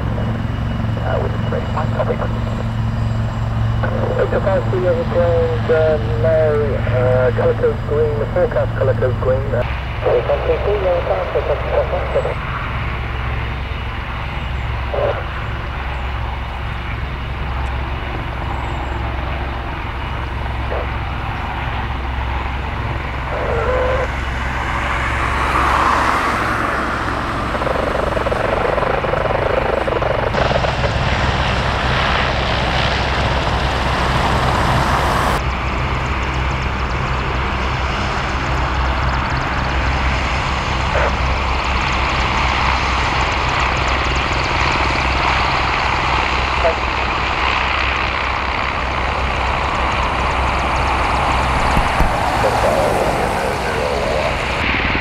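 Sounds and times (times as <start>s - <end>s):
helicopter engine noise: 0.0s - 55.0s
helicopter rotor beating: 0.0s - 55.0s.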